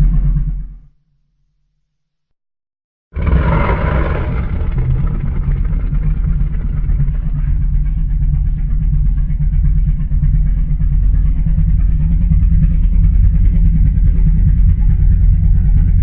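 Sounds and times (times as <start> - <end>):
loud low rumble: 3.2 - 16.0.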